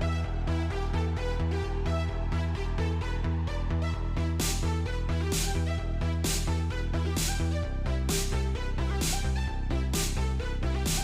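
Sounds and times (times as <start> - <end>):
electronic music with pulsing bass: 0.0 - 11.0.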